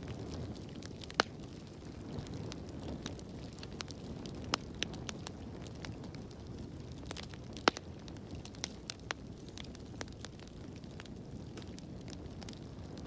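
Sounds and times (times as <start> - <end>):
fire crackles and pops: 0.0 - 13.0
low rumble of flames: 0.0 - 13.0.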